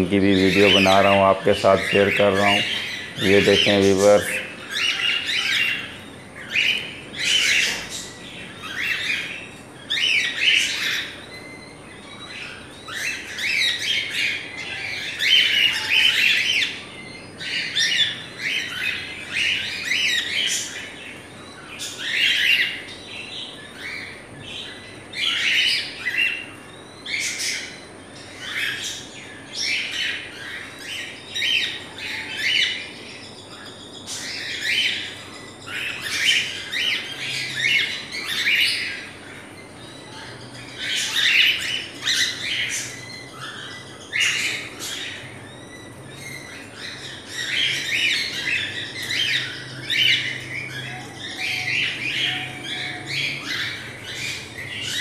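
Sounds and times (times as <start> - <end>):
cockatiels calling and chirping: 0.0 - 55.0.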